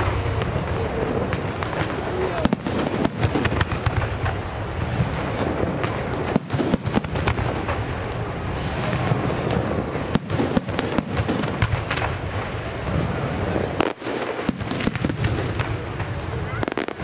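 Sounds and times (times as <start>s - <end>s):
fireworks crackle: 0.0s - 17.0s.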